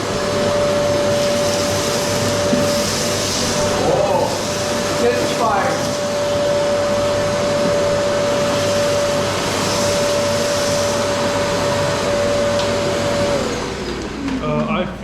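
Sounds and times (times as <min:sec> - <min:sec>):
power tool motor whining: 0:00.0 - 0:14.4.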